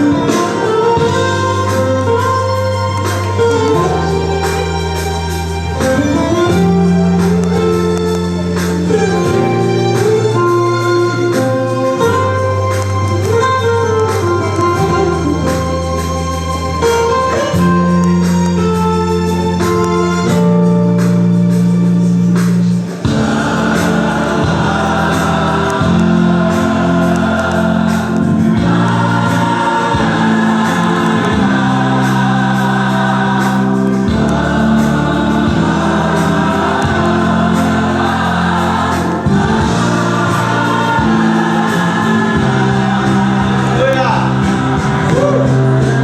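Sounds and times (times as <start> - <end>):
gospel voices singing: 0.0 - 18.2, 22.0 - 46.0.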